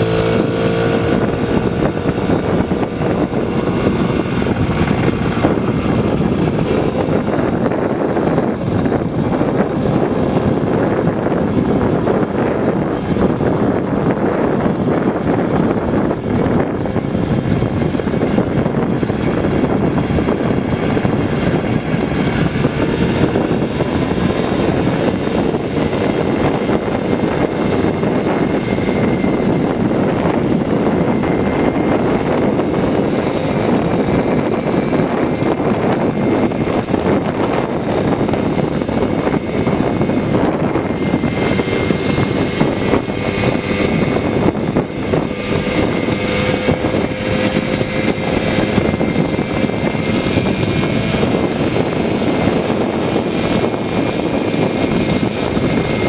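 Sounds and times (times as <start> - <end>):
moped engine buzzing: 0.0 - 56.0.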